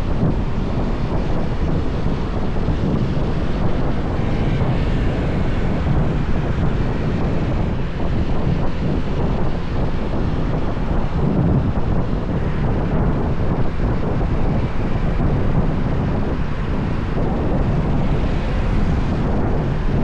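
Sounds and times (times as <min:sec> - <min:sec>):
motorbike running: 0:00.0 - 0:20.0
wind rushing over microphone: 0:00.0 - 0:20.0.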